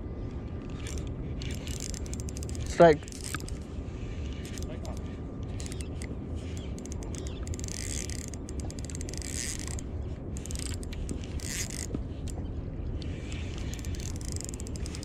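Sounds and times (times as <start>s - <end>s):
fishing reel clicking and whirring: 0.6s - 12.4s, 13.0s - 15.0s.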